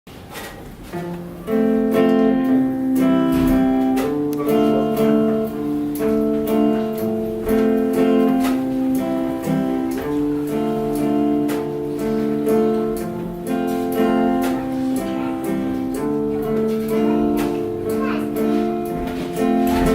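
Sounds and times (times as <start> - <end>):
guitar strumming chords: 0.7 - 19.9.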